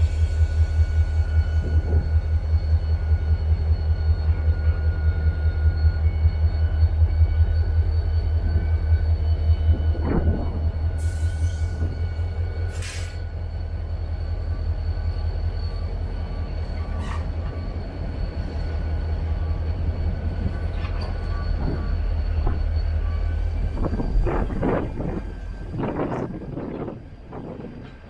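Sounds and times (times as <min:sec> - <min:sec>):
freight train rumbling: 0:00.0 - 0:28.0.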